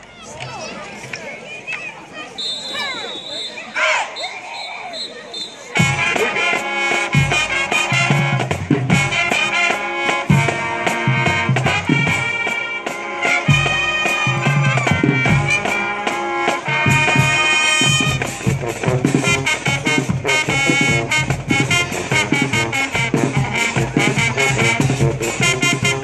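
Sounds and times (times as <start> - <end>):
marching band playing: 2.4 - 26.0.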